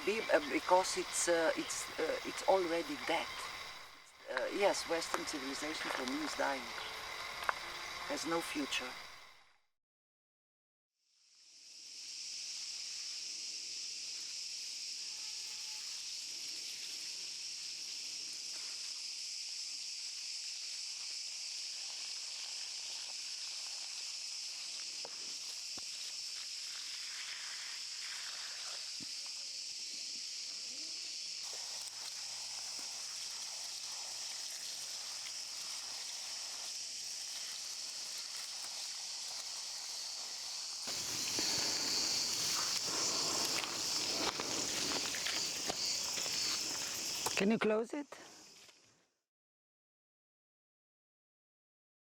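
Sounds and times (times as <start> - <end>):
insects buzzing: 0.0 - 9.4, 11.3 - 48.8.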